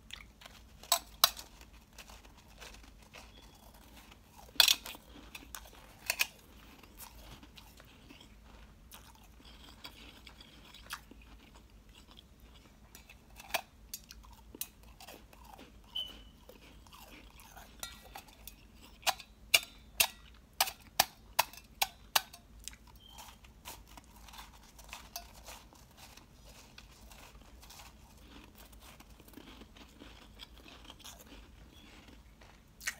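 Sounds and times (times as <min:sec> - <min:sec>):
ice being chewed: 0:00.0 - 0:32.9.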